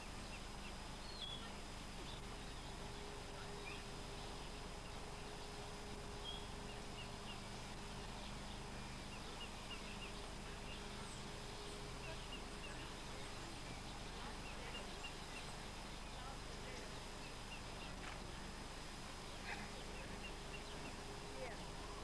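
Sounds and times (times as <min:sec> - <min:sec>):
low hum: 0:00.0 - 0:22.0
small birds chirping: 0:00.0 - 0:22.0
steady hiss: 0:00.0 - 0:22.0.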